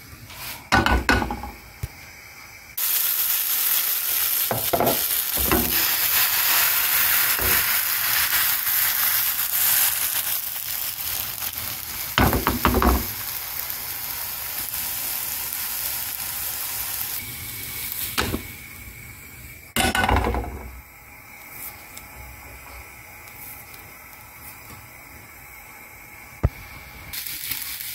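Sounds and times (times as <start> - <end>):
batter sizzling in frying pan: 0.0 - 27.9.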